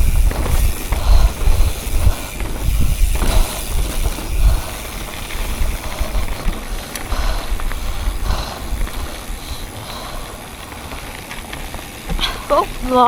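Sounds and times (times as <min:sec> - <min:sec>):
wind buffeting microphone: 0:00.0 - 0:11.2
bike tyres rolling over dirt: 0:00.0 - 0:13.0.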